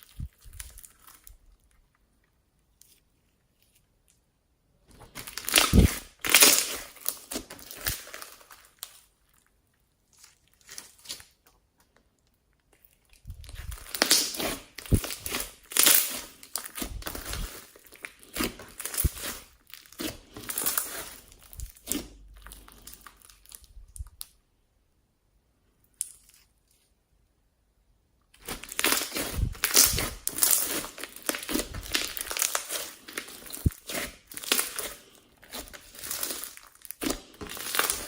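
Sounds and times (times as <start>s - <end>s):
slime squishing with sticky pops: 0.0s - 3.1s, 4.9s - 9.2s, 10.1s - 24.4s, 28.3s - 38.0s.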